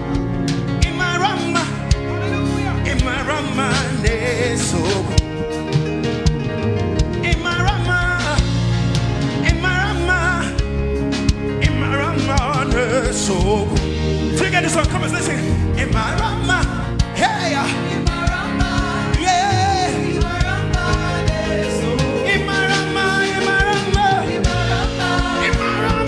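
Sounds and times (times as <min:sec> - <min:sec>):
person singing gospel: 0:00.0 - 0:05.7, 0:07.1 - 0:26.0
bass guitar: 0:00.0 - 0:26.0
steady drum beat: 0:00.0 - 0:26.0.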